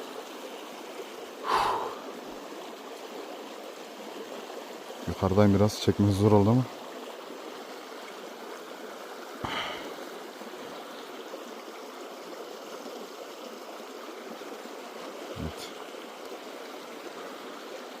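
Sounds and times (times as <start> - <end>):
stream flowing: 0.0 - 18.0.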